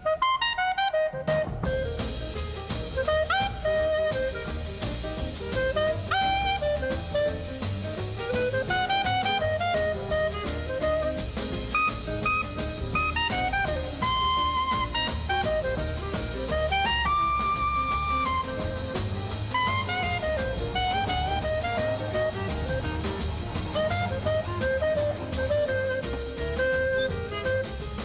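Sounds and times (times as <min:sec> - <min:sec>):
bass: 0:00.0 - 0:28.0
drums: 0:00.0 - 0:28.0
jazz saxophone melody: 0:00.0 - 0:28.0.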